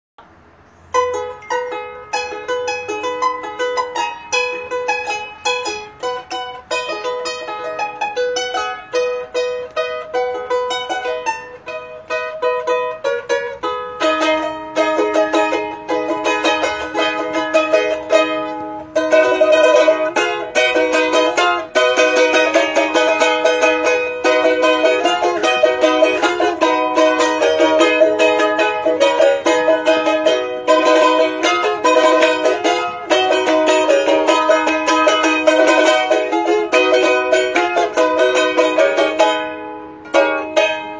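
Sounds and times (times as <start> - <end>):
charango playing: 0.2 - 40.9.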